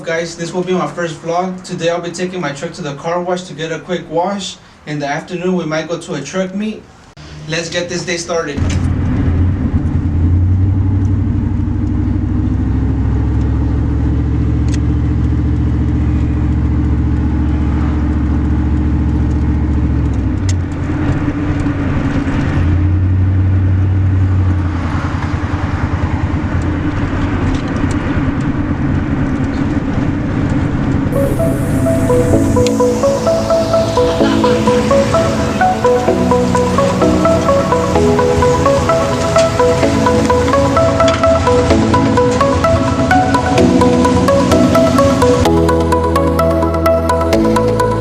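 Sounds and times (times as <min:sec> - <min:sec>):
truck engine running: 0:08.6 - 0:24.7, 0:25.3 - 0:48.0.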